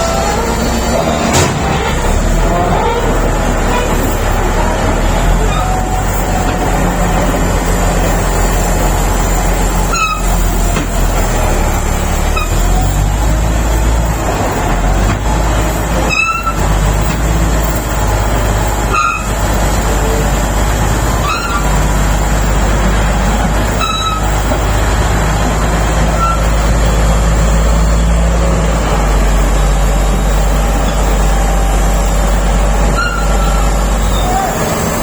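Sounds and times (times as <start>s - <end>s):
short high-pitched squeaks: 0.0s - 13.2s, 15.2s - 20.2s, 21.1s - 24.9s, 25.7s - 35.0s
bulldozer diesel engine running: 0.0s - 35.0s.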